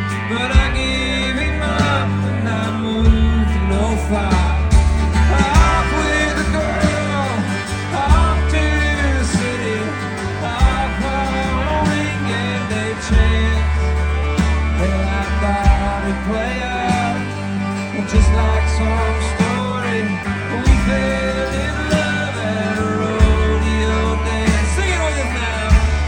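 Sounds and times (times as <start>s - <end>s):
bass guitar: 0.0s - 26.0s
person singing: 0.0s - 26.0s
strummed guitar: 0.0s - 26.0s
steady drum beat: 0.1s - 26.0s.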